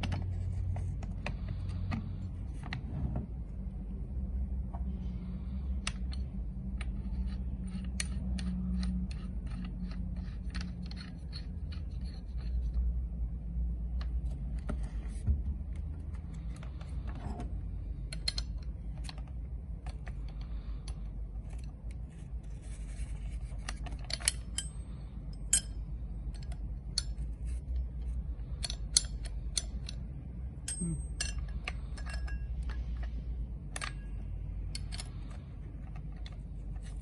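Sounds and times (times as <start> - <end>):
steady low hum: 0.0 - 37.0
metal clicks and scrapes of nut: 5.7 - 15.2, 16.0 - 37.0.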